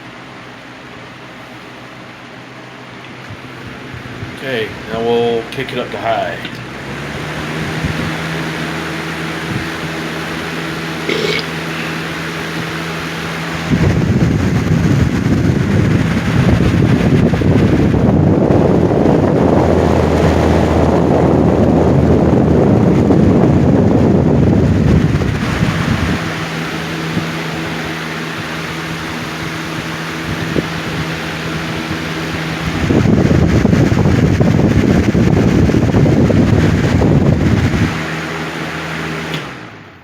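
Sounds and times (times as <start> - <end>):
fan motor hum: 0.0 - 40.0
rush of moving air: 6.6 - 39.7.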